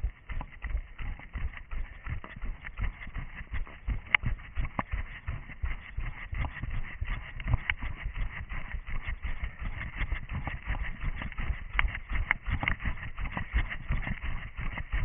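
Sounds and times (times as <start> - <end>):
running footsteps: 0.0 - 15.0.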